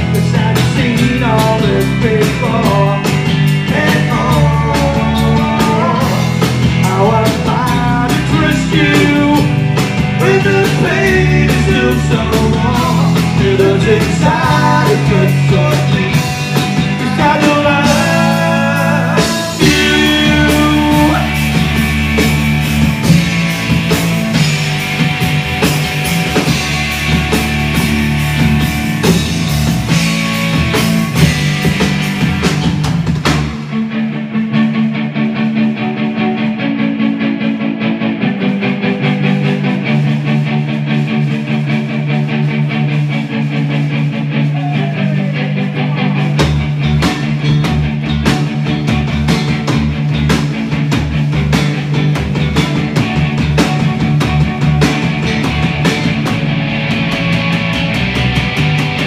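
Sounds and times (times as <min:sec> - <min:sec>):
bass guitar: 0:00.0 - 0:59.0
drums: 0:00.0 - 0:59.0
electric guitars: 0:00.0 - 0:59.0.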